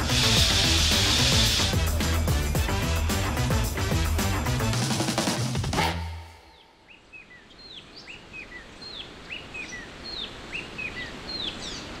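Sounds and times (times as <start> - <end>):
faint outdoor hiss: 0.0 - 4.6, 6.3 - 12.0.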